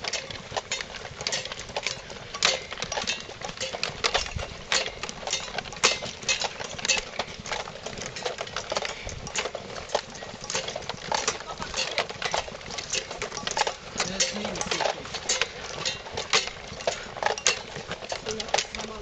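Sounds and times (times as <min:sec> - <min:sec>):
clinking of carried gear: 0:00.0 - 0:19.0
footsteps on dirt path: 0:00.0 - 0:19.0.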